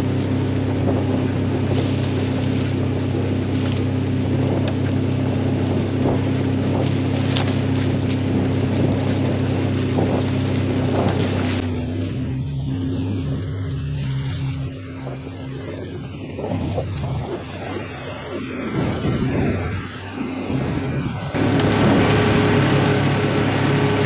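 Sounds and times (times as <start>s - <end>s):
vehicle engine running: 0.0s - 24.0s
wind noise on microphone: 0.0s - 24.0s.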